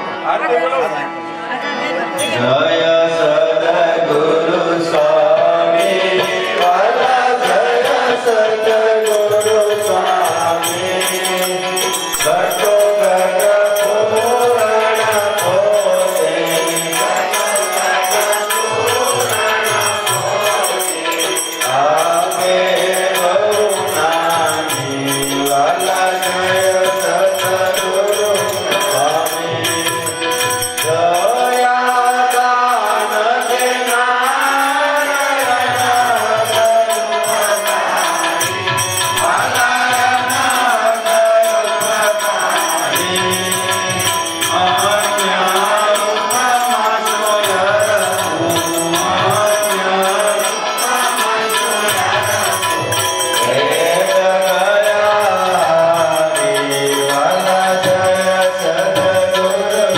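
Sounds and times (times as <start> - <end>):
devotional chant with music: 0.0 - 59.9.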